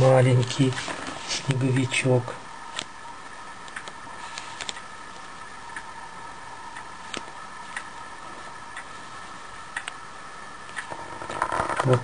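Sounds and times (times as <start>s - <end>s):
faint high hum: 0.0s - 12.0s.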